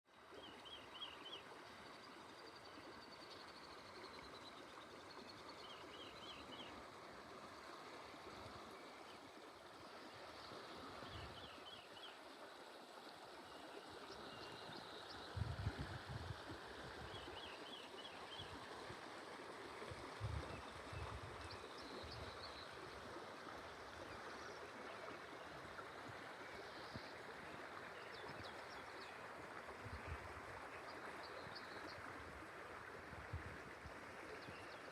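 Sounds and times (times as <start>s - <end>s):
stream running: 0.1s - 34.9s.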